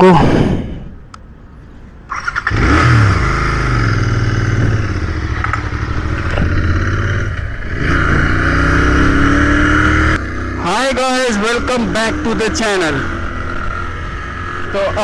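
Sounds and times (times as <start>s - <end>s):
motorcycle engine revving: 2.1s - 15.0s.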